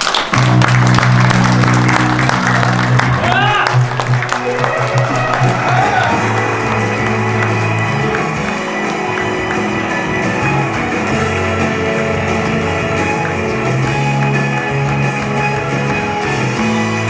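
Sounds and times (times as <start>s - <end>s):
instrumental music: 0.1s - 17.0s.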